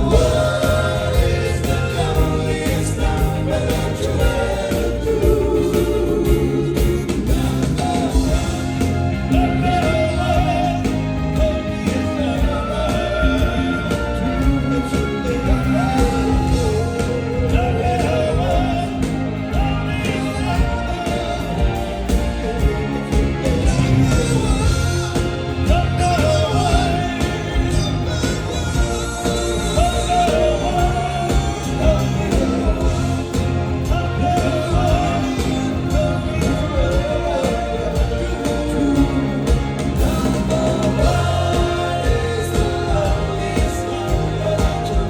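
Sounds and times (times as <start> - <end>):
rock band playing: 0.0 - 45.0
singer's lead vocal: 0.0 - 45.0.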